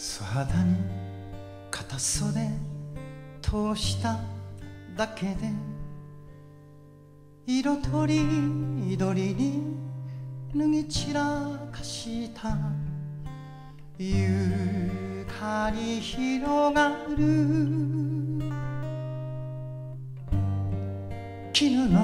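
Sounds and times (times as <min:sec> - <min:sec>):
man singing a ballad: 0:00.0 - 0:06.1, 0:07.4 - 0:19.0, 0:21.5 - 0:22.0
acoustic guitar strumming: 0:00.0 - 0:22.0.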